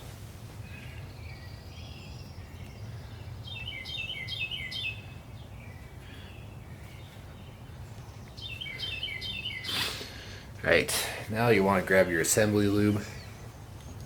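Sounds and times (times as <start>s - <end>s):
low background hum: 0.0s - 14.0s
songbird chirping: 0.0s - 14.0s.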